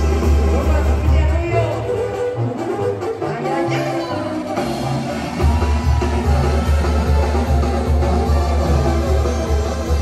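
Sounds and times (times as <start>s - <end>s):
loud live music: 0.0s - 10.0s.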